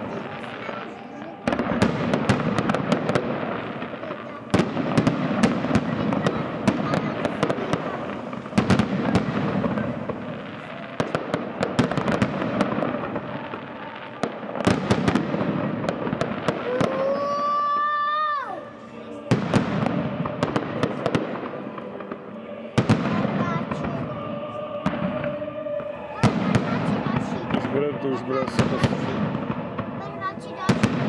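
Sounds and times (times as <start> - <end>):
fireworks bangs and crackles: 0.0 - 31.0
whistling firework: 0.0 - 31.0.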